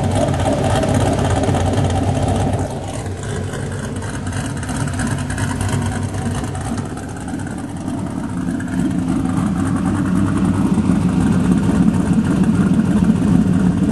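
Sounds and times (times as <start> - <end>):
car exhaust running: 0.0 - 13.9.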